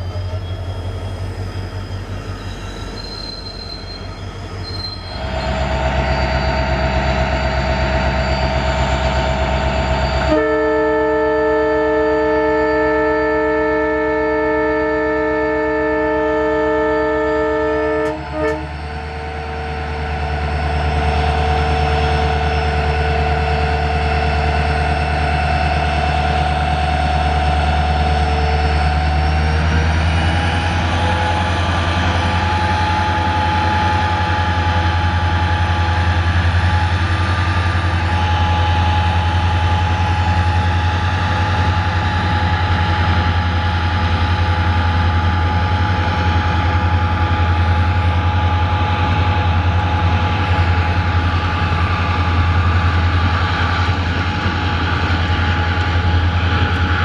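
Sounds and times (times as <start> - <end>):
diesel locomotive engine humming: 0.0 - 57.0.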